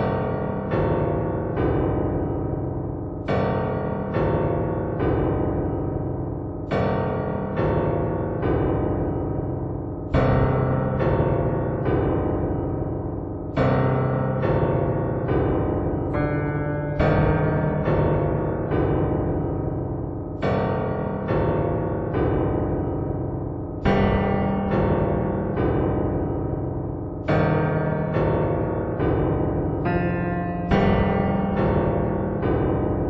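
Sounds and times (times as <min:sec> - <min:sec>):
keyboard chords ringing: 0:00.0 - 0:33.0.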